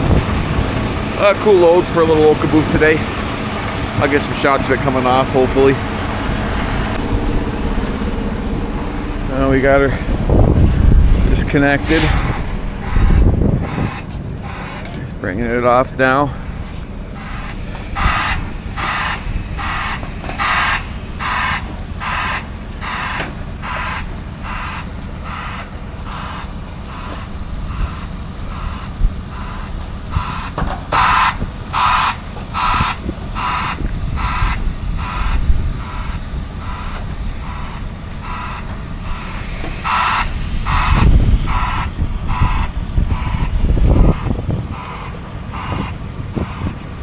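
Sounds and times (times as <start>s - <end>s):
backup alarm beeping: 0.0s - 46.8s
diesel engine running: 0.0s - 47.0s.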